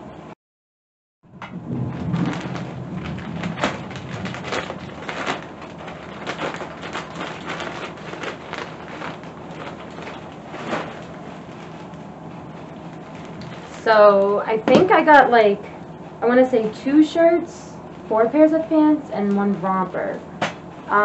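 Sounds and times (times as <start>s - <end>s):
plastic bag rustling and crinkling: 1.5s - 21.0s.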